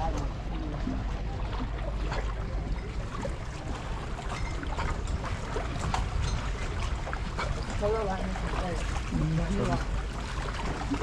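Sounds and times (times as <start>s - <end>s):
small splashes: 0.0s - 11.0s
water lapping against rocks: 0.0s - 11.0s
wind rumble on microphone: 0.0s - 11.0s.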